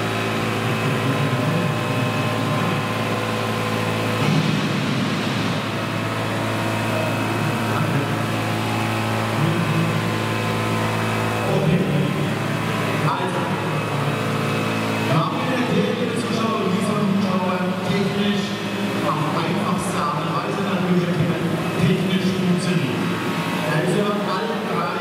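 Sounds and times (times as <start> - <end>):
model helicopter rotor hum: 0.0 - 25.0.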